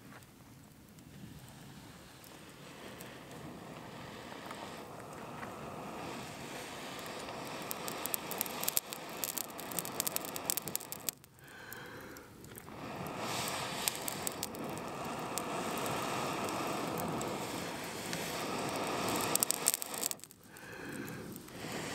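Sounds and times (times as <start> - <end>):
embers crackling and popping: 0.0 - 21.9.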